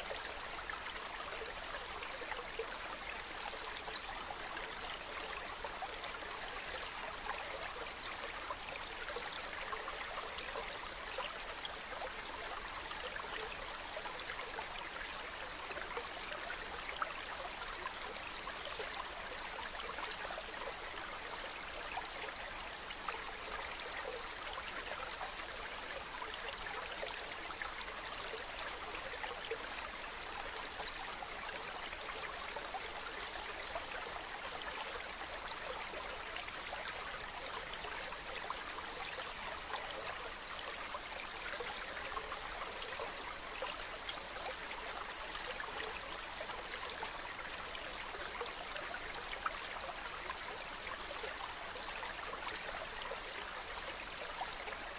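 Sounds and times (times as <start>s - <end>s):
stream babbling over stones: 0.0s - 54.9s.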